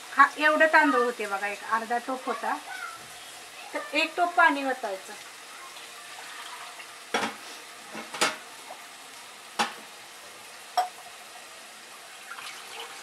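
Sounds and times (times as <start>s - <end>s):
rice sizzling in pot: 0.0s - 13.0s.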